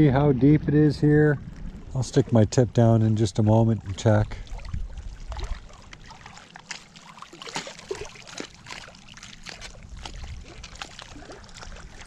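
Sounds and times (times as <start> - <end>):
lake water splashing: 0.0 - 12.0.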